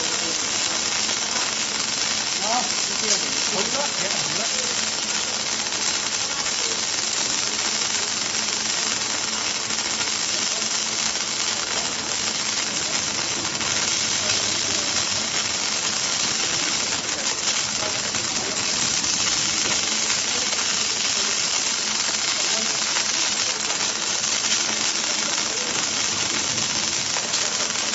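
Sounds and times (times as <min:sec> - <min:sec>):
welding machine hissing: 0:00.0 - 0:27.9.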